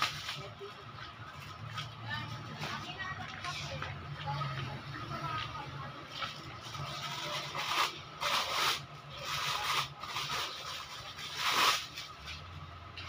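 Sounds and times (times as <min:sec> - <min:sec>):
plastic wrapping crinkling: 0:00.0 - 0:04.2, 0:06.1 - 0:12.6.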